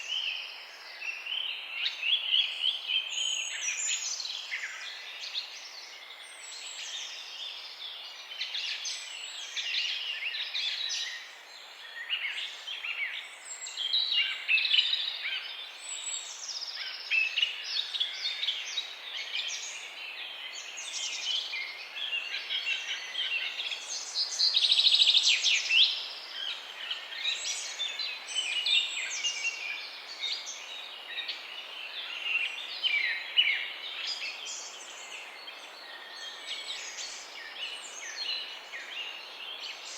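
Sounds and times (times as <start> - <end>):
birds chirping chorus: 0.0 - 39.9
faint steady hiss: 0.0 - 39.9.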